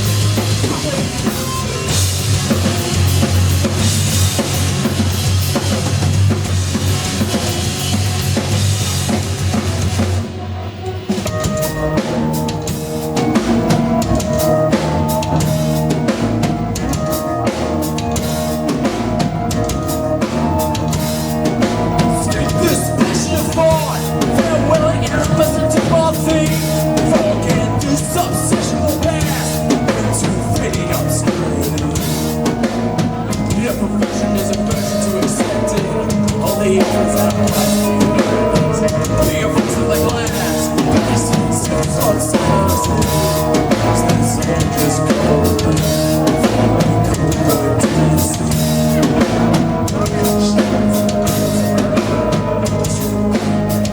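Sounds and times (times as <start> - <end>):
bass lines: 0.0 - 53.9
drum kit beating: 0.0 - 53.9
keyboard chords: 0.0 - 53.9.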